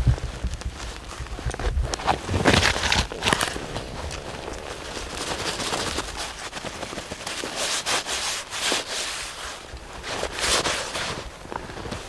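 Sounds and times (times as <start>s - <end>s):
clothing rustling: 0.0s - 12.0s.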